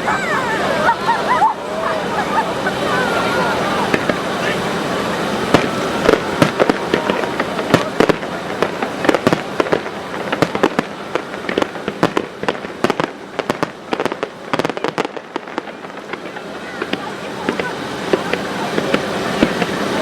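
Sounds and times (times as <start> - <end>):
fireworks bangs and crackles: 3.8 - 20.0.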